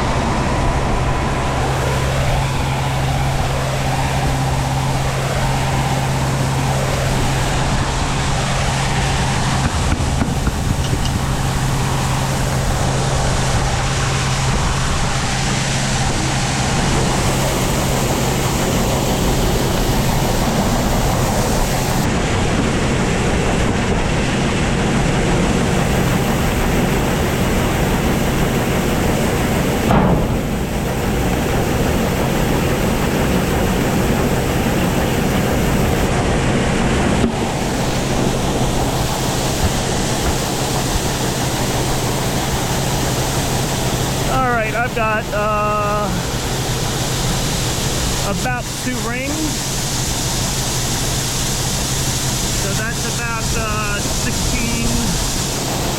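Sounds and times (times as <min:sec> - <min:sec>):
loud rushing fan noise: 0:00.0 - 0:55.9
low hum: 0:00.0 - 0:55.9.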